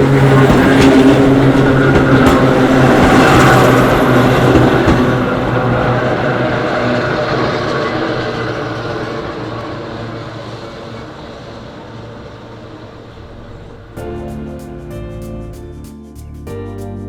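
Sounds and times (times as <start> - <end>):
rail noise: 0.0 - 16.4
electric train hum: 0.0 - 17.0.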